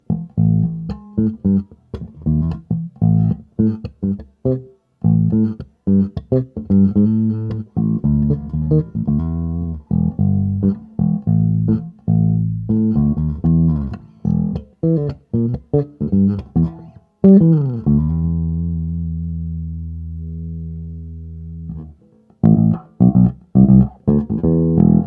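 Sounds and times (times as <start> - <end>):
electric bass riff: 0.0 - 25.0.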